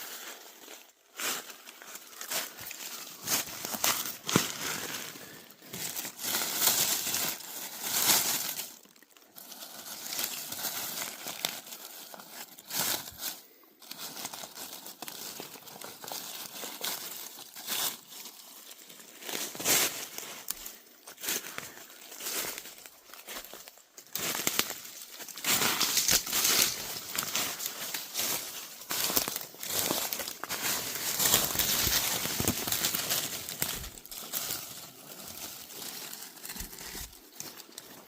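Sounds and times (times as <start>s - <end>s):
dry leaves crunching: 0.0s - 38.0s.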